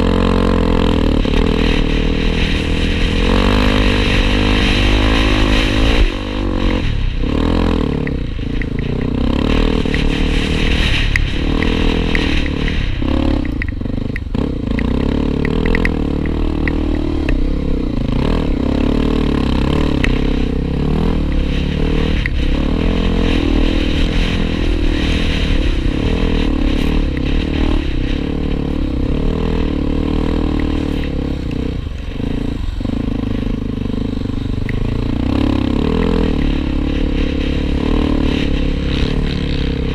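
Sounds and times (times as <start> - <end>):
motorcycle clattering over rough ground: 0.0 - 39.9
motorcycle engine running: 0.0 - 39.9.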